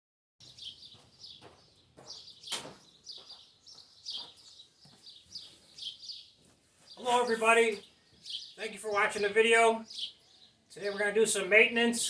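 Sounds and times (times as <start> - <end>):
small birds chirping: 0.4 - 12.0.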